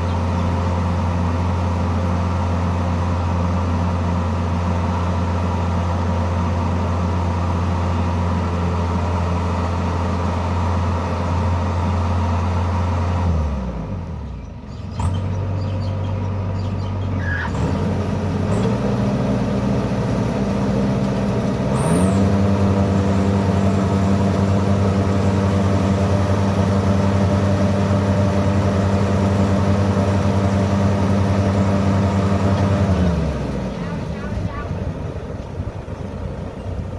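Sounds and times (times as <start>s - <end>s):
heavy machine engine revving: 0.0s - 36.9s.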